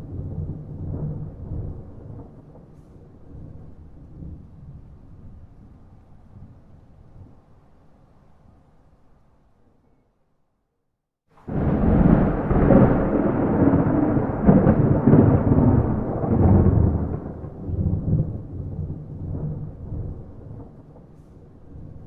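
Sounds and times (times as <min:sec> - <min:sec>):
thunder rumbling: 0:00.0 - 0:07.5, 0:11.4 - 0:22.0.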